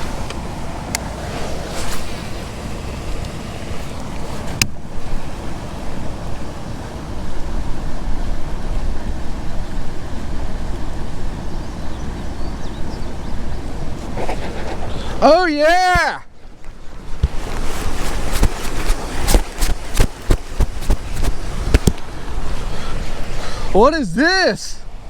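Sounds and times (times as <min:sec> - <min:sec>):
wind buffeting microphone: 0:00.0 - 0:23.8
moving water: 0:00.0 - 0:25.0.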